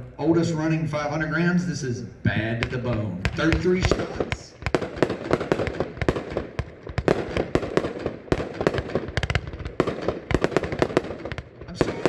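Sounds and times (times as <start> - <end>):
fireworks bangs and cracks: 2.3 - 12.0.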